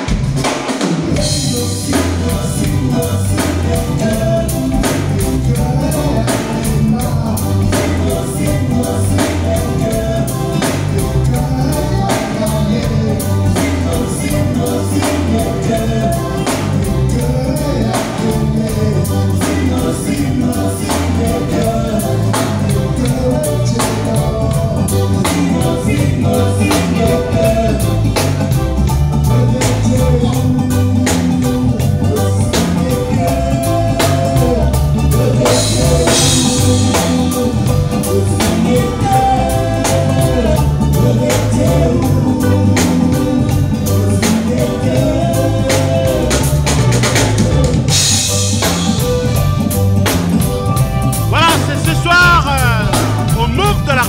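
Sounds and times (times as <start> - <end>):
live band playing: 0.0 - 54.0
singers singing together: 1.1 - 28.6, 29.2 - 48.2.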